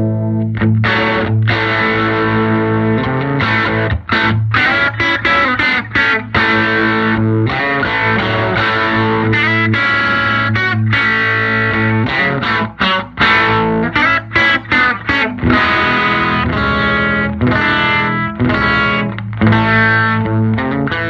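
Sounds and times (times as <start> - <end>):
overdriven electric guitar strumming: 0.0 - 21.0.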